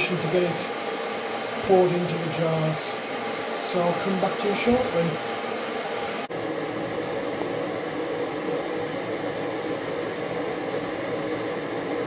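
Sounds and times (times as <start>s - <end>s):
jam boiling hard in a pan: 0.0s - 12.0s.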